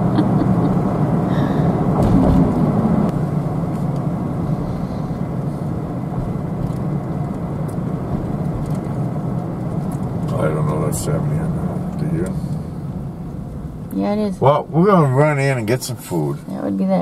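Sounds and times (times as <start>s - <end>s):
truck engine hum: 0.0s - 17.0s
tyre and road noise: 0.0s - 17.0s.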